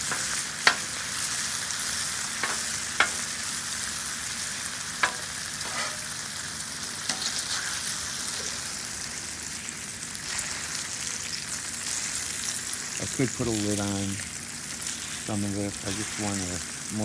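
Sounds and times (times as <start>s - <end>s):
bacon sizzling on a griddle: 0.0s - 17.0s.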